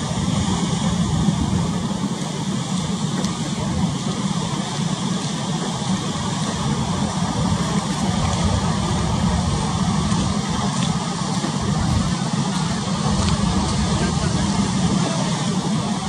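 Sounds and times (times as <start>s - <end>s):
boat engine droning: 0.0s - 16.0s
choppy sea: 0.0s - 16.0s.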